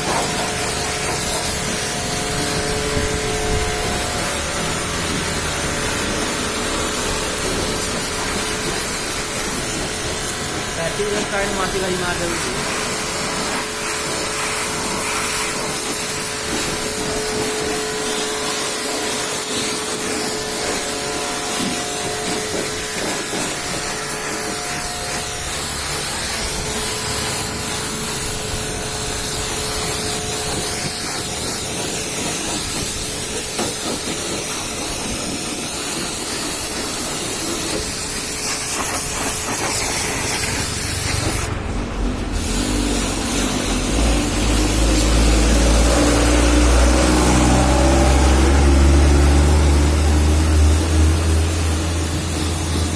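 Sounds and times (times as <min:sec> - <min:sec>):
pressure washer spraying water: 0:00.0 - 0:52.9.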